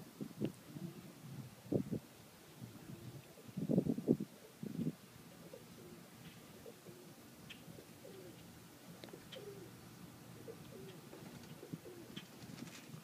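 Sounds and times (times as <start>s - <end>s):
pigeons cooing faintly: 0.0s - 13.0s.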